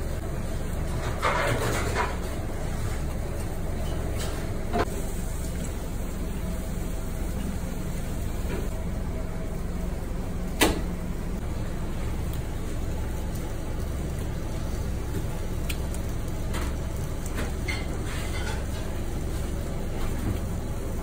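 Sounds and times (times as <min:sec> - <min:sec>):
kitchen equipment hum: 0:00.0 - 0:21.0.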